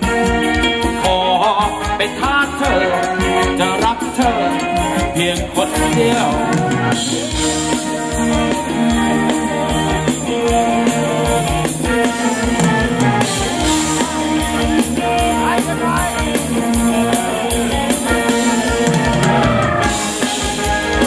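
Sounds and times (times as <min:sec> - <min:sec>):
drum kit beat: 0:00.0 - 0:21.0
live band dance music: 0:00.0 - 0:21.0.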